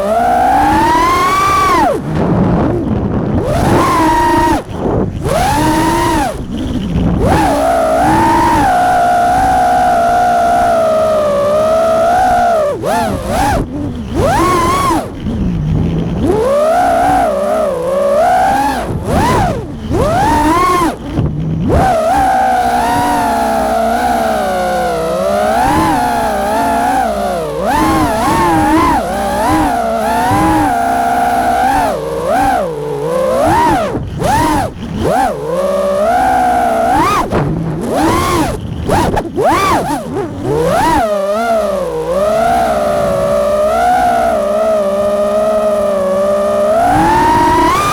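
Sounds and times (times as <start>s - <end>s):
quadcopter motors whining: 0.0s - 47.9s.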